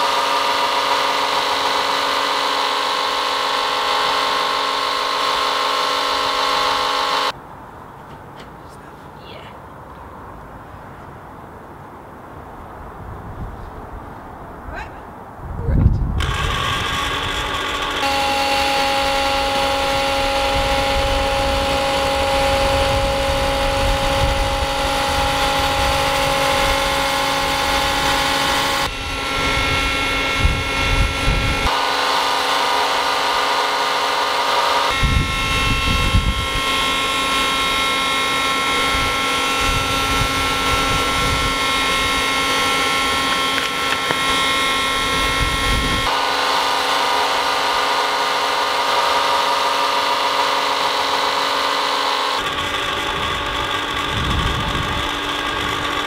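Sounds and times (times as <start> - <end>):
blender motor whining: 0.0 - 7.4, 16.2 - 56.0.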